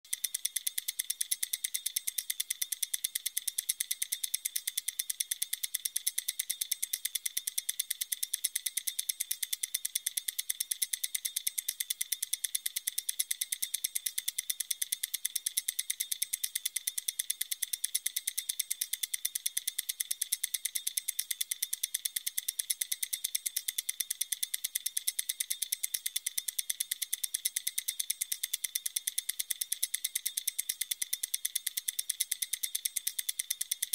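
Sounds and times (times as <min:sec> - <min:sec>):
stopwatch ticking: 0:00.0 - 0:33.9.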